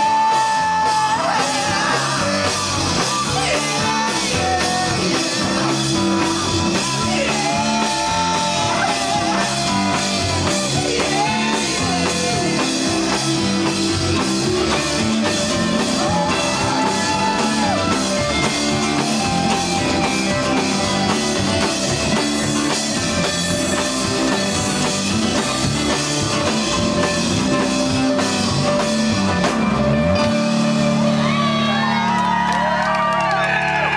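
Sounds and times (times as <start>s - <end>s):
drum kit beat: 0.0s - 32.8s
electric bass: 0.0s - 33.9s
electric guitar: 0.0s - 33.9s.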